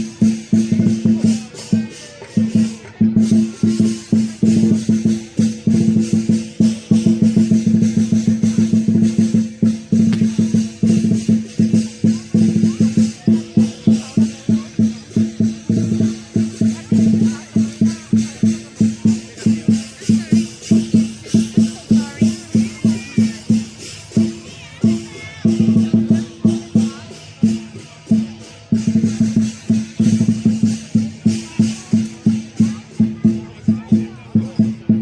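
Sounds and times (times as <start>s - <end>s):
cymbals clashing: 0.0s - 35.0s
large drum beating: 0.0s - 35.0s.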